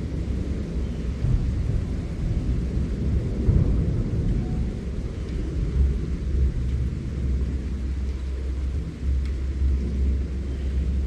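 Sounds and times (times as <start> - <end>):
low continuous rumble: 0.0 - 11.0.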